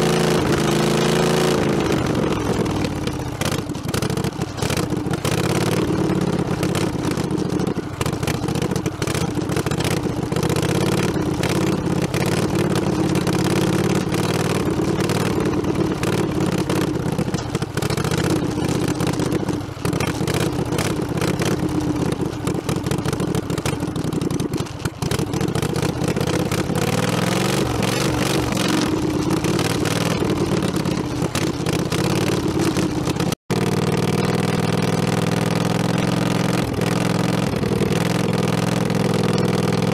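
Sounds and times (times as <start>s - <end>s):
rattling and knocks of bouncing machine: 0.0s - 39.9s
small tractor engine running: 0.0s - 39.9s.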